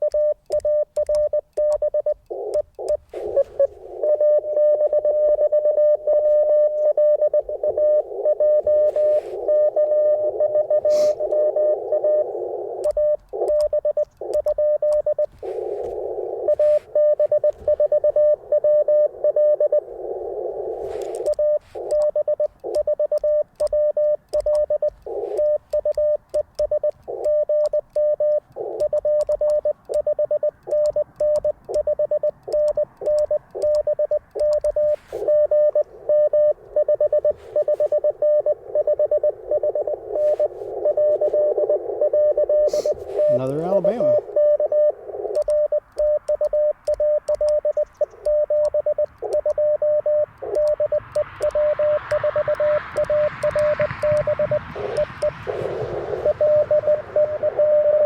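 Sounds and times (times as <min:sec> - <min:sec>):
morse code tone: 0:00.0 - 0:58.0
radio receiver hiss: 0:01.6 - 0:58.0.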